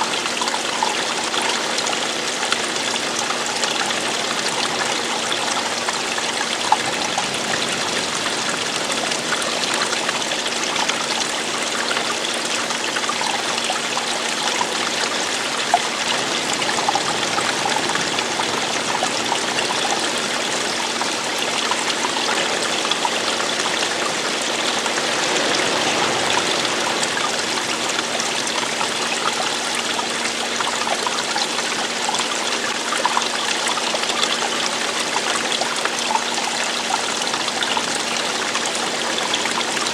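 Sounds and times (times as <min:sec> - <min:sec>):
running water splashing: 0:00.0 - 0:39.9.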